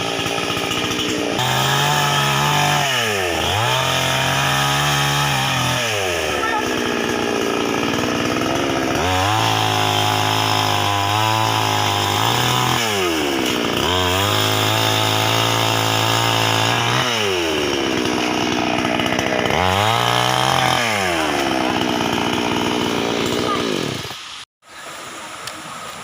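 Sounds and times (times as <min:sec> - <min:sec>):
brush cutter engine revving: 0:00.0 - 0:24.3.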